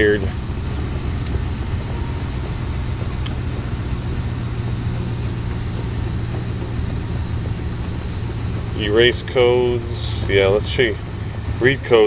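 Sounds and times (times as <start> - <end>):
vehicle hum inside car: 0.0 - 12.0.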